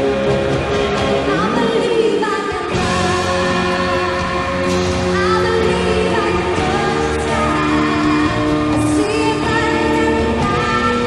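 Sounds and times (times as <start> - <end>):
band playing: 0.0 - 11.0
woman singing: 1.2 - 11.0.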